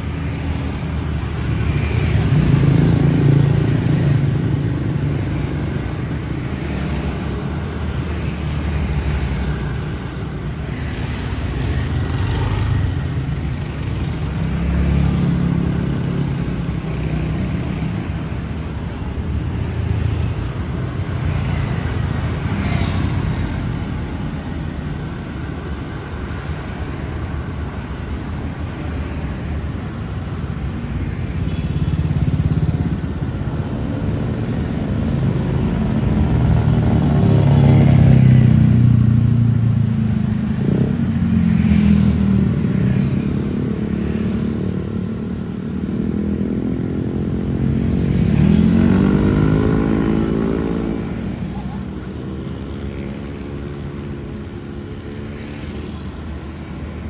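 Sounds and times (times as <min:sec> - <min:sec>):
motorbikes and cars driving past: 0:00.0 - 0:57.0.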